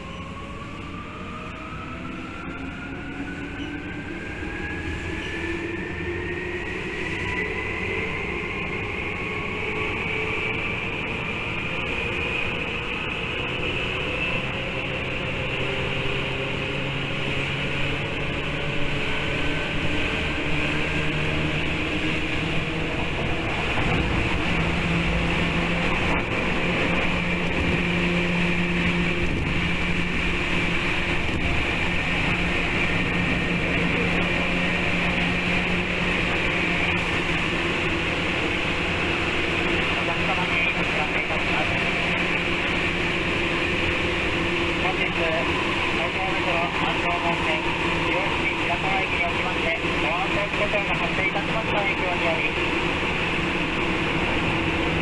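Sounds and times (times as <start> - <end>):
electric train motor whine: 0.0 - 55.0
wheels rumbling on rail: 0.0 - 55.0.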